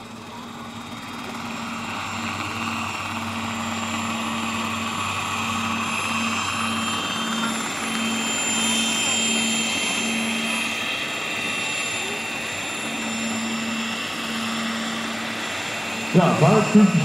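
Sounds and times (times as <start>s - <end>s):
electric motor high whine: 0.0s - 17.0s
helicopter rotor noise: 0.0s - 17.0s.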